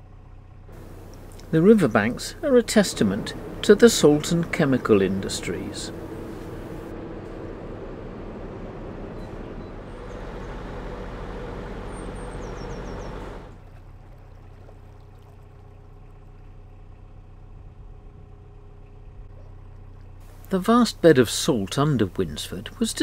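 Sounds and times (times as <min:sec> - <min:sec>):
low hum: 0:00.7 - 0:20.5
boat engine running: 0:00.7 - 0:22.9.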